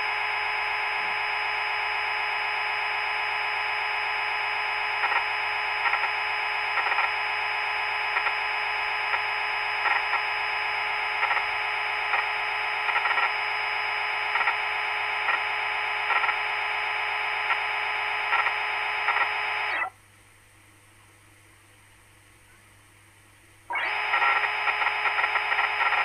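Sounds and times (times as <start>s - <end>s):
synthetic machining whine: 0.0s - 19.9s, 23.7s - 26.0s
faint hum: 0.0s - 26.0s.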